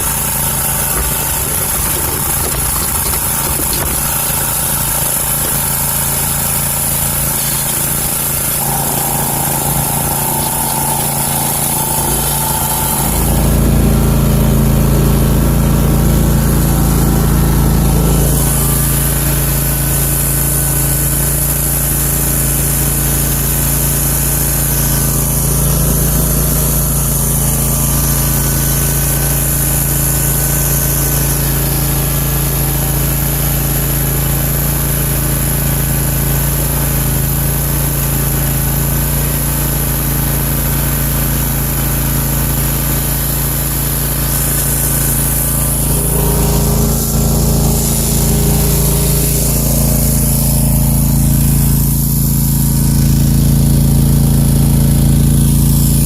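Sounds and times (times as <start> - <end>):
mower engine running: 0.0 - 56.0.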